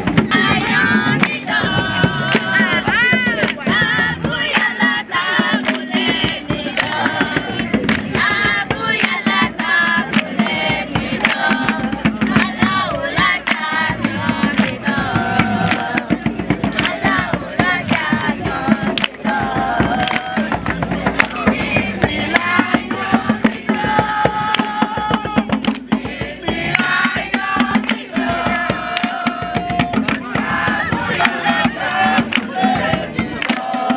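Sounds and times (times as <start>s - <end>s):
group of voices singing: 0.0s - 33.9s
sharp percussive beats: 0.0s - 33.9s.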